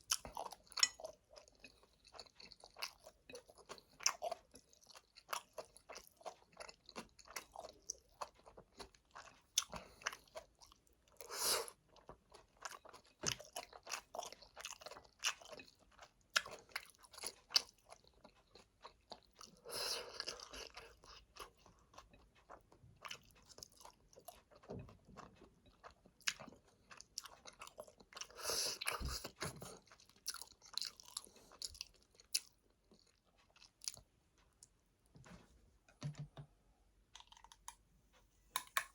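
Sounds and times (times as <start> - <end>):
wet chewing with mouth clicks: 0.0 - 34.8, 37.1 - 38.9.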